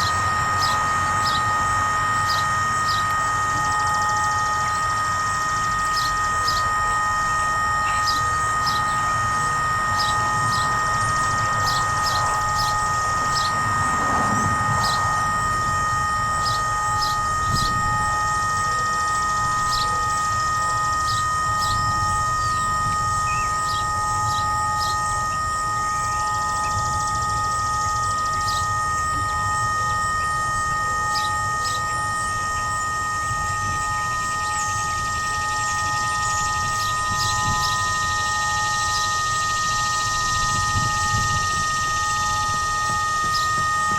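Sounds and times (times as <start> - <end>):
electronic siren buzzing: 0.0 - 43.9.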